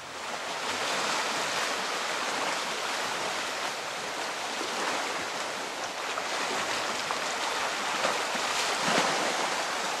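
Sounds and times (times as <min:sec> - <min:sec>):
small waves lapping: 0:00.0 - 0:10.0.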